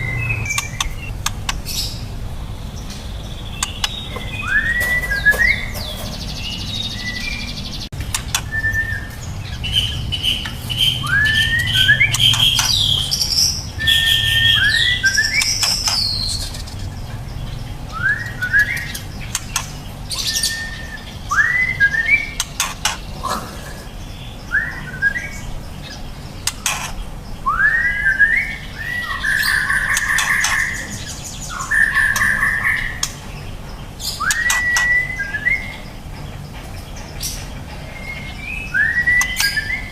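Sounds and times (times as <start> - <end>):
bird singing whistled notes: 0.0 - 2.0, 2.8 - 16.7, 17.9 - 19.4, 20.1 - 22.7, 24.2 - 26.0, 27.4 - 33.2, 34.0 - 36.0, 37.2 - 39.9.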